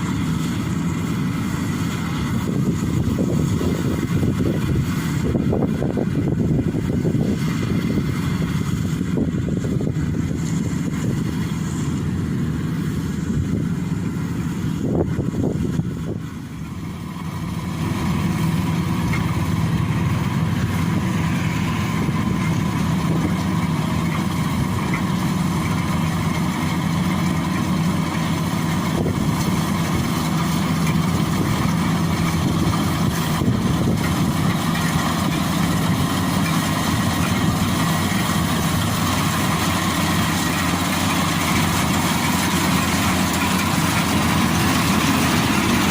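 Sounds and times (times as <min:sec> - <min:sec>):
combine harvester engine running: 0:00.0 - 0:45.9.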